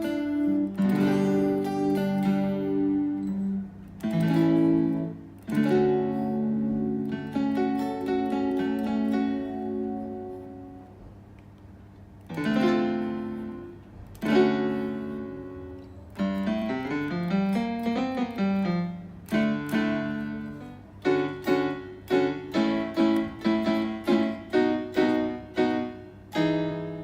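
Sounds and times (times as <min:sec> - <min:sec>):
piano-like synthesizer chords: 0:00.0 - 0:27.0.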